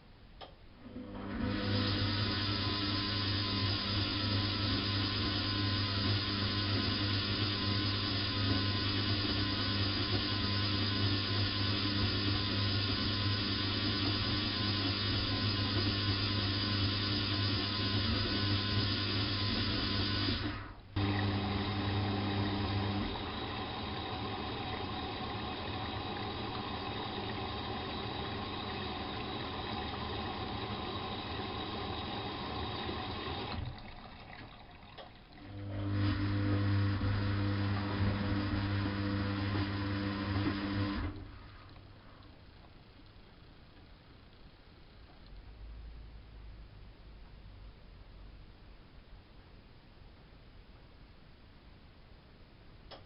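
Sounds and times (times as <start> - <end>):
washing machine electric hum: 0.0 - 47.9.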